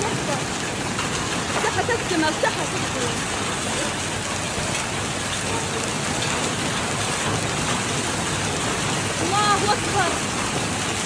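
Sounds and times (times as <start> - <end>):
hail pattering on ground: 0.0 - 11.0.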